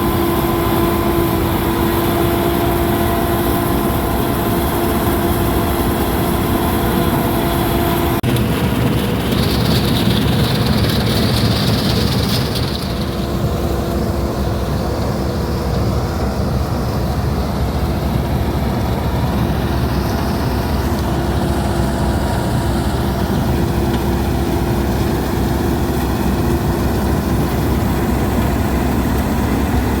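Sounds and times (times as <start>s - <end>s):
combine harvester humming: 0.0s - 30.0s.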